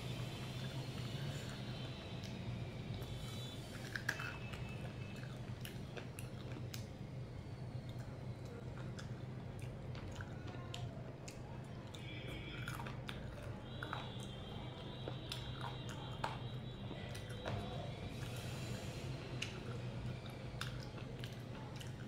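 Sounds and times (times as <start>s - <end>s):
steady low hum: 0.0s - 22.0s
person chewing food: 0.2s - 22.0s.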